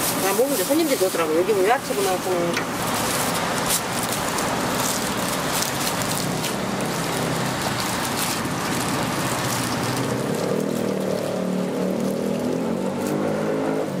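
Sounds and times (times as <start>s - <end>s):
food sizzling in hot oil: 0.0s - 13.2s.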